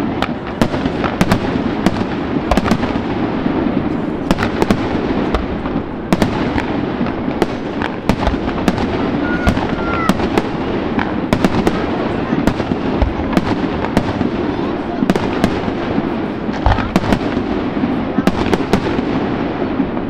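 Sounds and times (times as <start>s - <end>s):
fireworks bangs: 0.0s - 20.0s
fireworks rumble and crackle: 0.0s - 20.0s.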